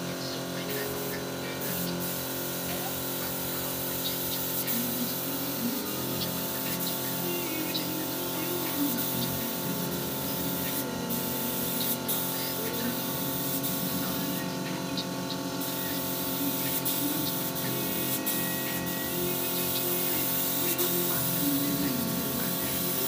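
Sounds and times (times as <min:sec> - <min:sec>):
steady droning hum: 0:00.0 - 0:23.0
spray gun hissing: 0:00.6 - 0:23.0.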